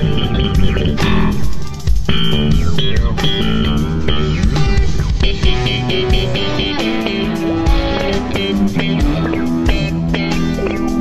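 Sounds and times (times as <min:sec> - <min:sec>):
electric bass guitar: 0:00.0 - 0:11.0
lead electric guitar bending notes: 0:00.0 - 0:11.0
rock band playing: 0:00.0 - 0:11.0.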